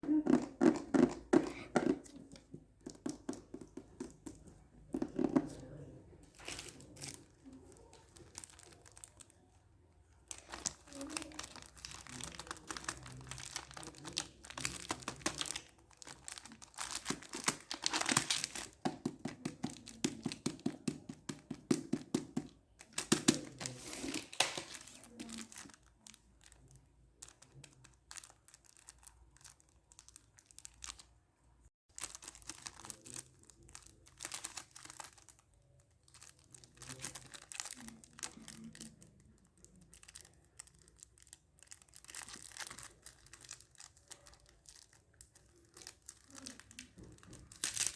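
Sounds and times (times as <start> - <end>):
packaging crinkling and tearing: 6.3 - 9.5, 10.2 - 31.1, 31.9 - 47.9.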